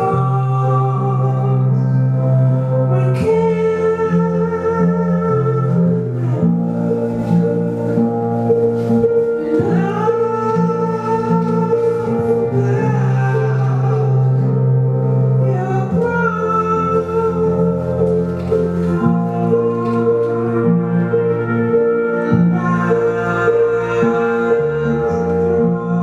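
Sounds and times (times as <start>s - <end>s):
slow sustained music: 0.0s - 26.0s.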